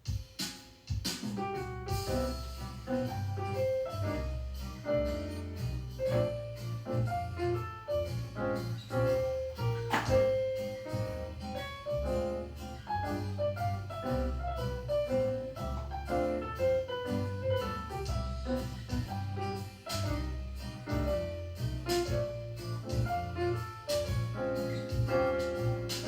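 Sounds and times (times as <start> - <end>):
jazz piano: 0.0 - 26.0
walking bass: 1.6 - 26.0.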